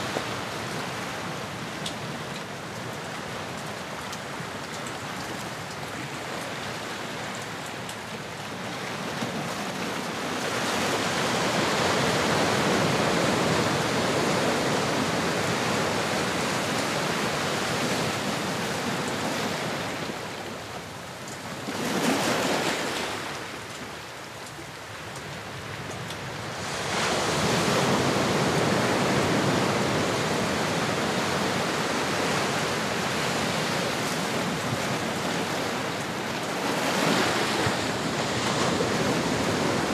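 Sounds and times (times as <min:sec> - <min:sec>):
ocean waves washing in and out: 0:00.0 - 0:39.9.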